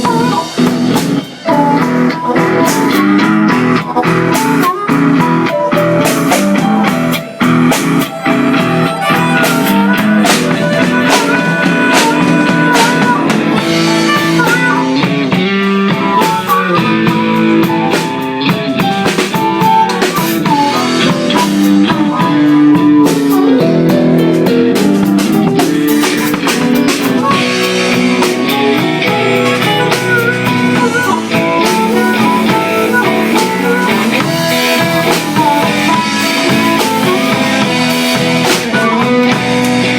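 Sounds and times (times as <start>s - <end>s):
blues band playing: 0.0s - 39.9s.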